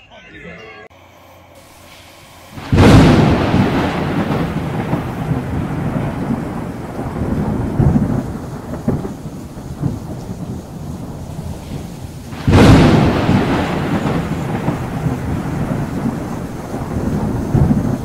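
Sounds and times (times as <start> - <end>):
rain hiss: 1.0 - 18.0
thunderclap rumbling: 2.5 - 18.0.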